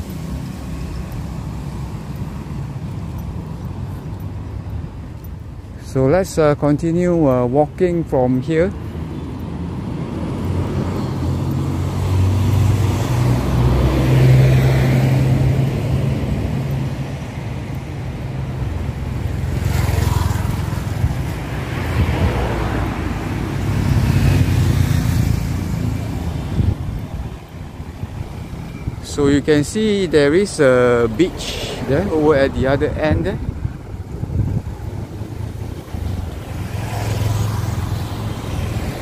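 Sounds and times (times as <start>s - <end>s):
motor vehicles passing: 0.0s - 39.0s.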